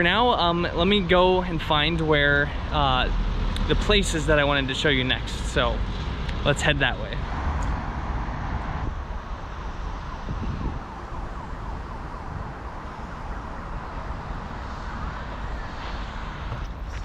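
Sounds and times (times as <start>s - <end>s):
road traffic low rumble: 0.0s - 17.0s.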